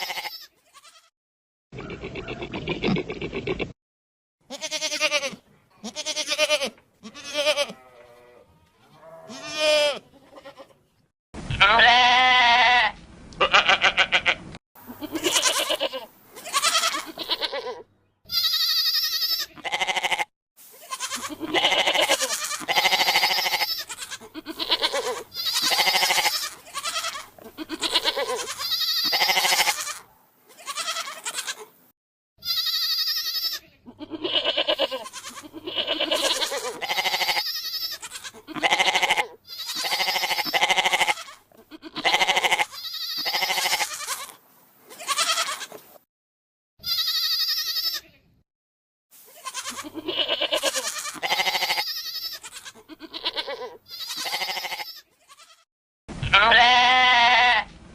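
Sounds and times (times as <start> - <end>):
goats bleating: 0.0 - 1.1, 4.5 - 10.8, 11.6 - 31.7, 32.4 - 45.8, 46.8 - 48.2, 49.3 - 57.7.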